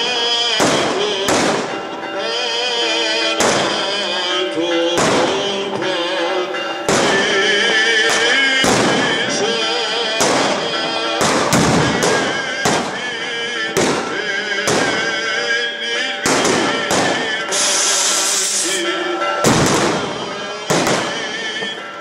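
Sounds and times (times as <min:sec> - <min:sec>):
firecrackers banging: 0:00.0 - 0:22.0
sustained music: 0:00.0 - 0:22.0.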